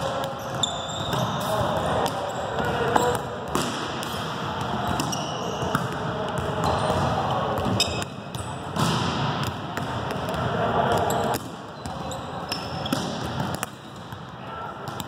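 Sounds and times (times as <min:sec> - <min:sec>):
gym background noise: 0:00.0 - 0:15.0.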